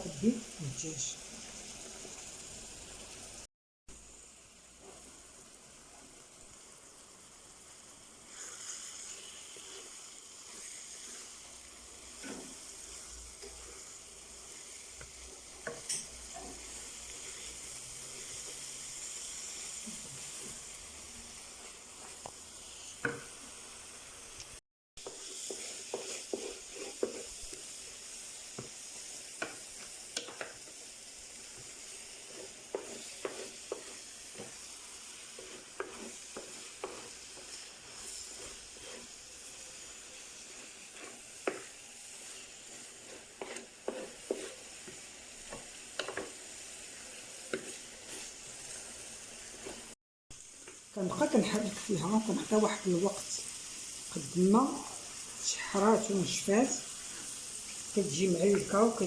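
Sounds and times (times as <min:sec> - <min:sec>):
onions sizzling in a pot: 0:00.0 - 0:59.0.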